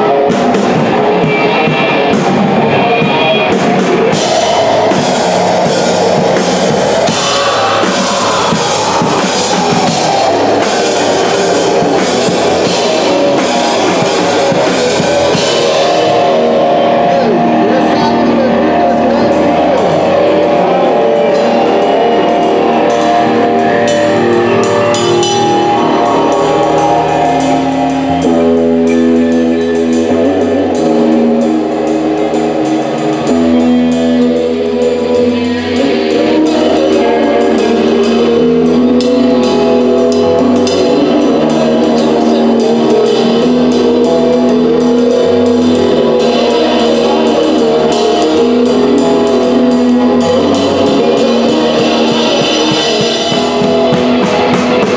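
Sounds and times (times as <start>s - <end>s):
electric guitar chords: 0.0s - 54.9s
rock band playing: 0.0s - 54.9s.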